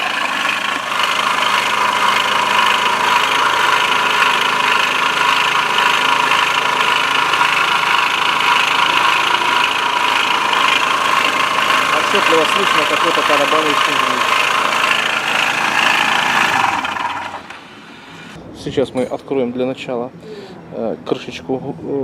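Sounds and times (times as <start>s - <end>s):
scooter engine idling: 0.0s - 18.4s.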